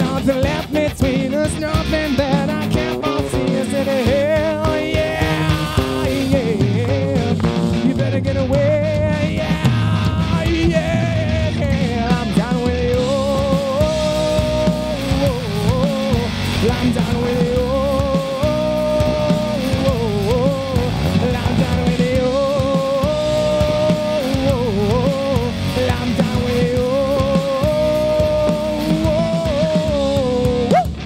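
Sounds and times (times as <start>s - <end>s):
bass guitar: 0.0s - 31.0s
drums: 0.0s - 31.0s
electric guitar lead melody: 0.0s - 31.0s.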